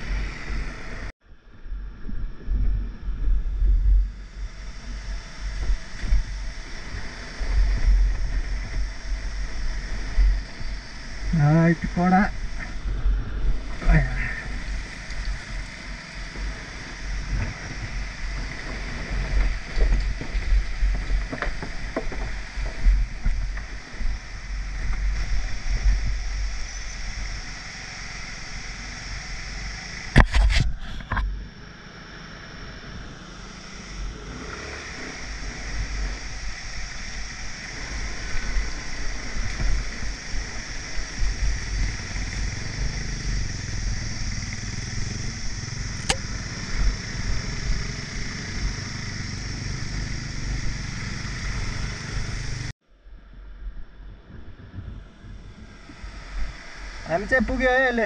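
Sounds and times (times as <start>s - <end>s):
wind rumbling on microphone: 0.0s - 58.0s
motor scooter engine running: 3.9s - 30.4s, 31.1s - 52.8s.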